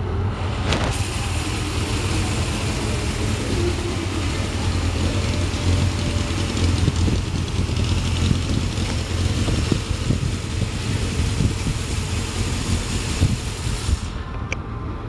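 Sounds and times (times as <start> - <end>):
motorcycle engine running: 0.7 - 14.0.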